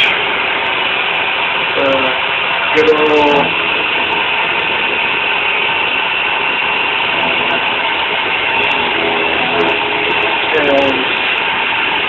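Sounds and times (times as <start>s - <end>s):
milling spindle motor whining: 0.0s - 12.0s.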